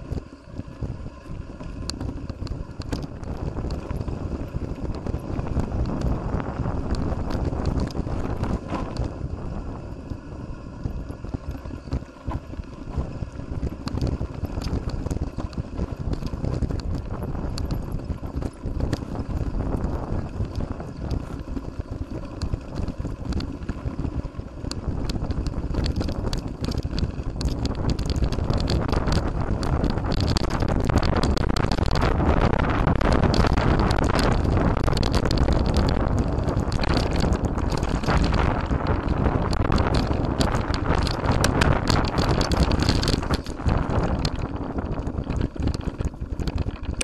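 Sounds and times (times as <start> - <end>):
bike rattling over rough trail: 0.0 - 47.0
wind buffeting microphone: 0.0 - 47.0.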